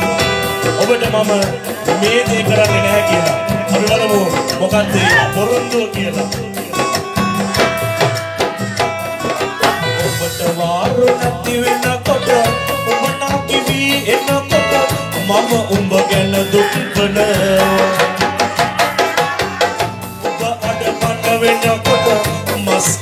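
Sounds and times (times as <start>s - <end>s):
hand drum played in rapid strokes: 0.0s - 23.0s
melodic song: 0.0s - 23.0s.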